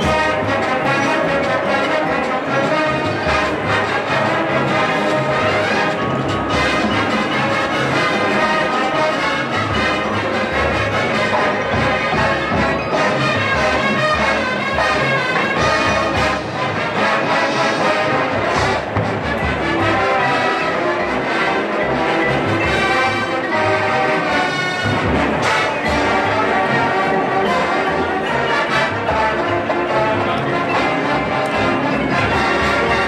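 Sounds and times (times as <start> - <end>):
marching band with brass: 0.0 - 33.0.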